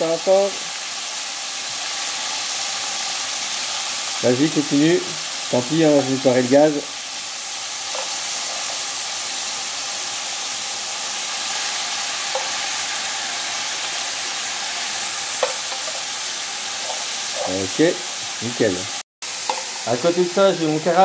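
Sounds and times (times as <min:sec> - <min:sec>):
pork sizzling in a hot pan: 0:00.0 - 0:21.0.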